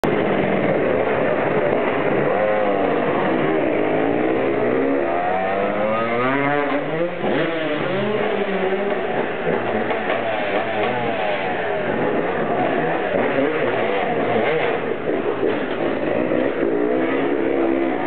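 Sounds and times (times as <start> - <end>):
steady rushing noise: 0.0 - 5.8, 6.4 - 18.0
dirt bike engine revving: 0.1 - 18.0.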